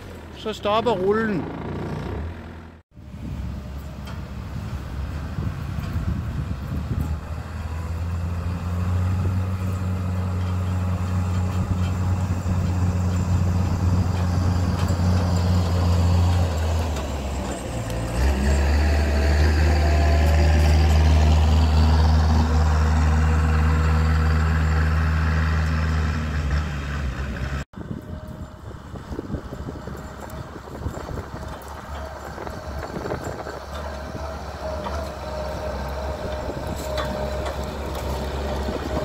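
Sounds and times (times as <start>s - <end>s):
loader engine running: 0.0s - 39.0s.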